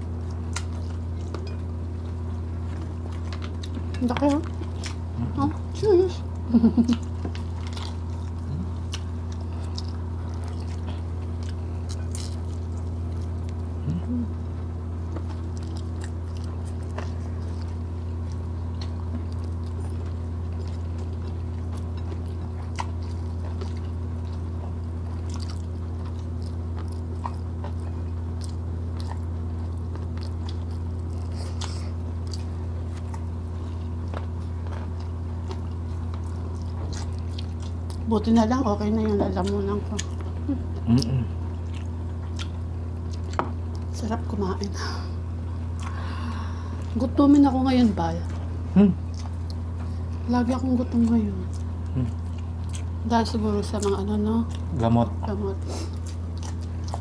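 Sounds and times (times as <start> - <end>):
chewing and smacking: 0.0 - 44.3, 45.5 - 57.0
steady low hum: 0.0 - 57.0.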